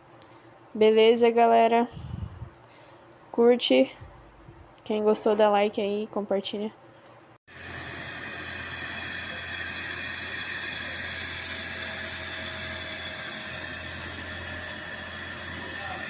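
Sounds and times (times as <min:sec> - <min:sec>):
air conditioner unit running: 0:00.0 - 0:06.1, 0:06.8 - 0:16.0.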